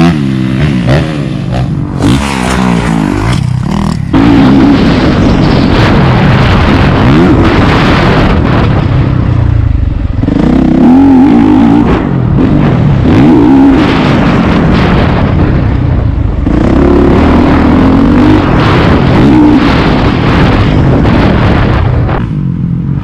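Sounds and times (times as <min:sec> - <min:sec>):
dirt bike engines revving: 0:00.0 - 0:23.0
wind noise: 0:00.0 - 0:23.0.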